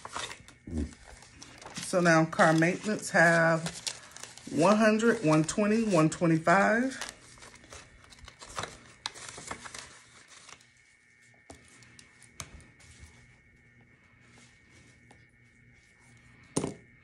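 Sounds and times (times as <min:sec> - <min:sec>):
paper and banknotes rustling: 0:00.0 - 0:16.5
faint high hum: 0:00.0 - 0:17.0.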